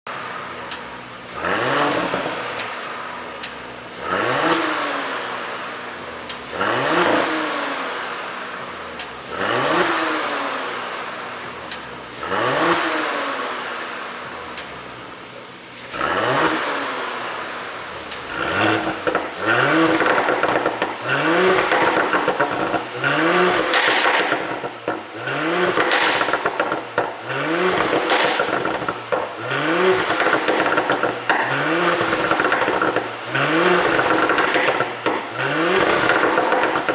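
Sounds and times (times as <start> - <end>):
car engine revving: 0.0 - 36.9
exhaust pops: 0.1 - 36.9.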